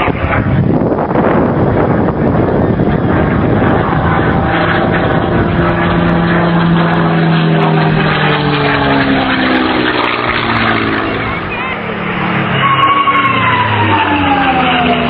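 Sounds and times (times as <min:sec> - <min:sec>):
propeller aircraft engine passing: 0:00.0 - 0:15.0.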